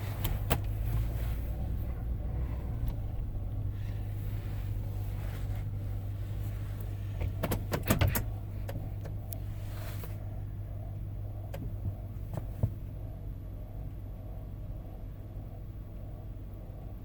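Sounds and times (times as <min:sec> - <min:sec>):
car engine humming in cabin: 0:00.0 - 0:17.0.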